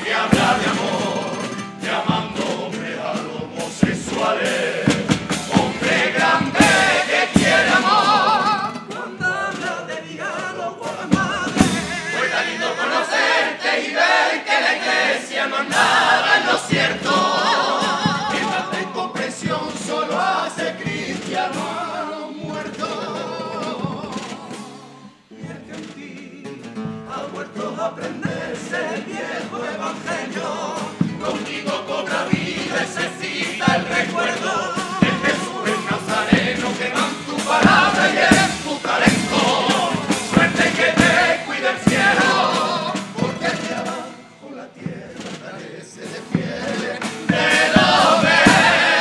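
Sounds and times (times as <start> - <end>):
male chorus singing in harmony: 0.0 - 49.0
strummed acoustic guitars: 0.0 - 49.0.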